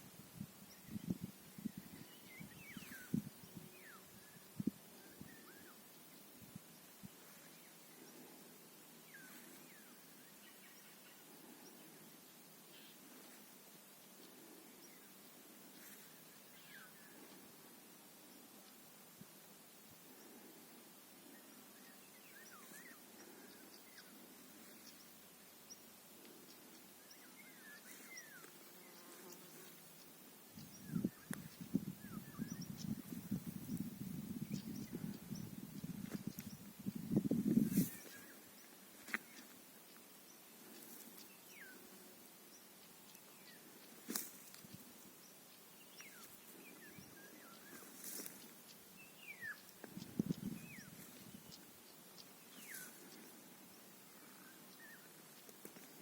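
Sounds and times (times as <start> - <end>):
faint background hiss: 0.0 - 56.0
faint bird song: 0.0 - 56.0.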